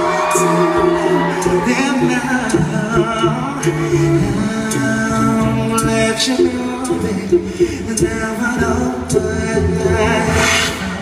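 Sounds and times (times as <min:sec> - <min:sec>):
a cappella group singing harmonies: 0:00.0 - 0:11.0.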